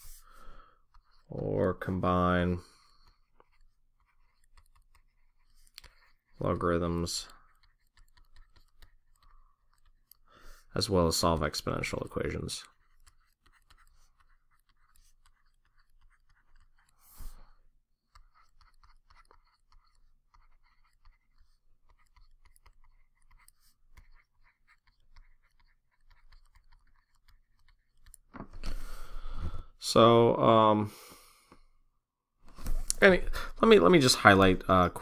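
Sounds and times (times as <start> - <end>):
stylus tapping and scratching screen: 0.8 - 29.6.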